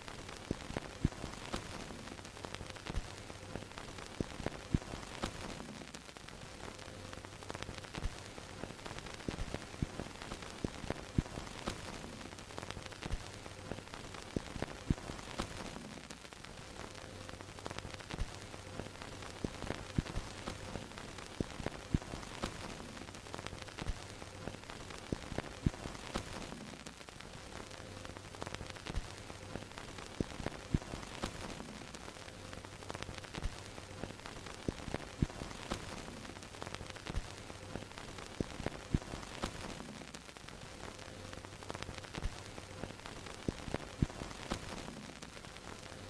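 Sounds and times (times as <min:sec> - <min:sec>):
film crackles and pops: 0:00.0 - 0:46.0
film hiss: 0:00.0 - 0:46.0.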